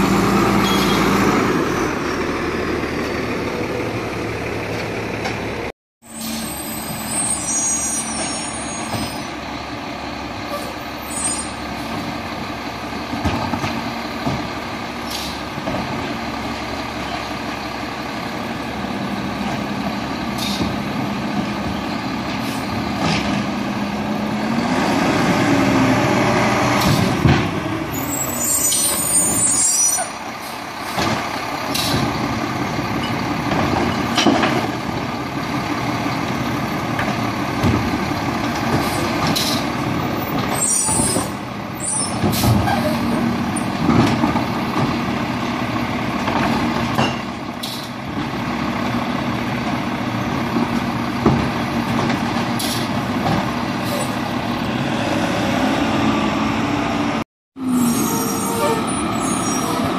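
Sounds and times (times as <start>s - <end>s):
diesel engine revving: 0.0s - 5.7s, 6.4s - 59.9s.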